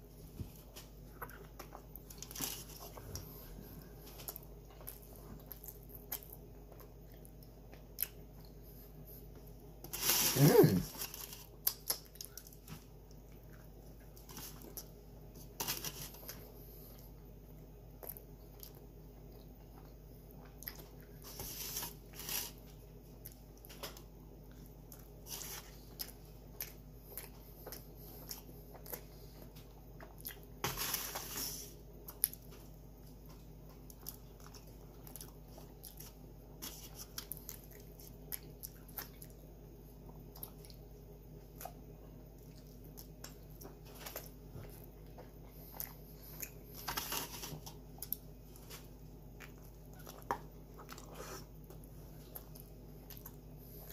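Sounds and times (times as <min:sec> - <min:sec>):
chewing sandwich: 0:00.5 - 0:53.9.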